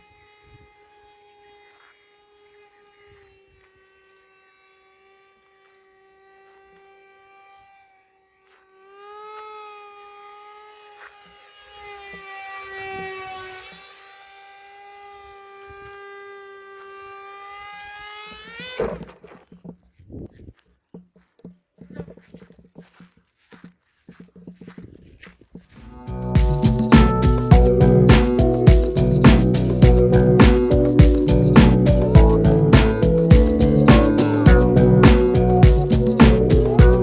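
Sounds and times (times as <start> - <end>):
electric motor and propeller whining: 0.0 - 19.7, 25.8 - 37.0.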